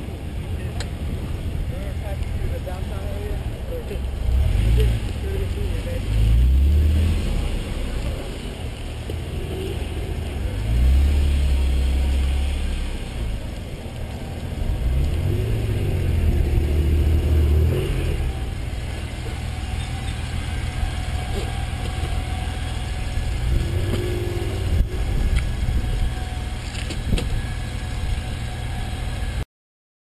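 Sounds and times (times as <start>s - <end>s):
car engine rumbling: 0.0s - 29.4s.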